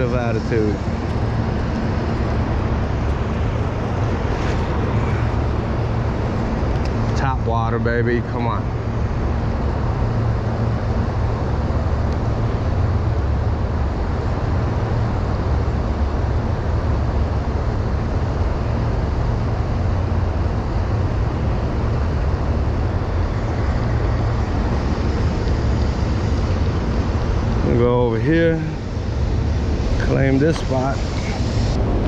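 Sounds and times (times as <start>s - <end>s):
deep rumble: 0.0s - 32.0s.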